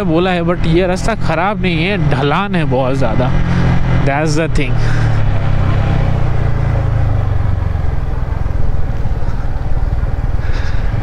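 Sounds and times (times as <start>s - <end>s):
low rumble: 0.0s - 11.0s
motorcycle engine running: 0.0s - 11.0s.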